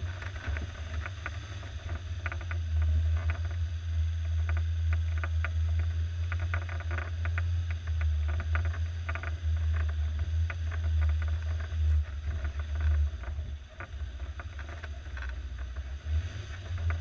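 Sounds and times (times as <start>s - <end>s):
engine droning: 0.0s - 17.0s
vehicle clicks and rattles: 0.0s - 17.0s.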